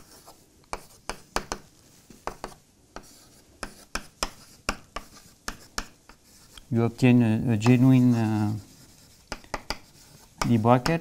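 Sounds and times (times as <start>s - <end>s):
chalk tapping and scraping on blackboard: 0.0s - 11.0s.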